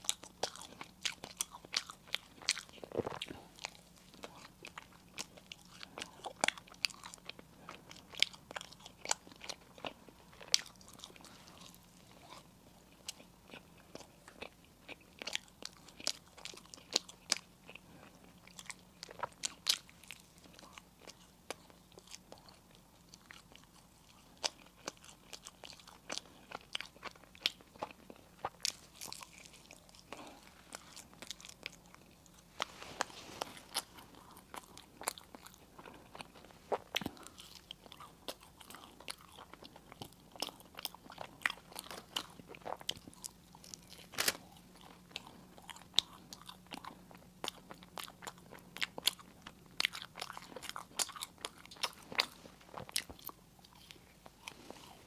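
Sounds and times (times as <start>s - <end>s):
chewing and crunching pastry: 0.0s - 55.0s.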